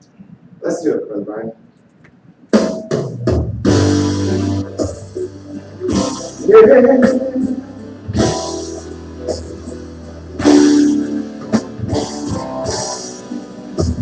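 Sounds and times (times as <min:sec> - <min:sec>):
drum kit: 0:02.4 - 0:14.0.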